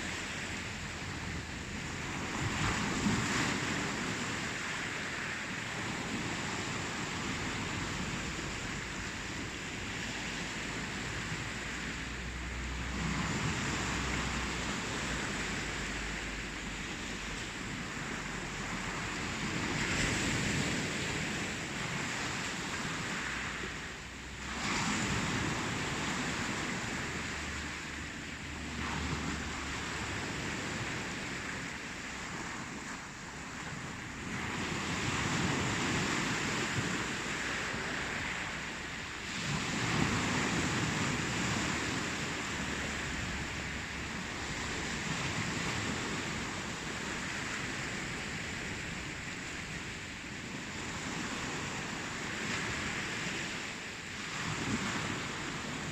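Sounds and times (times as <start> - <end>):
ocean waves breaking: 0.0 - 55.9.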